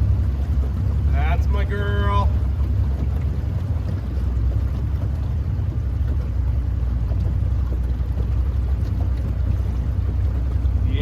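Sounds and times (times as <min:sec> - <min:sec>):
boat motor idling: 0:00.0 - 0:11.0.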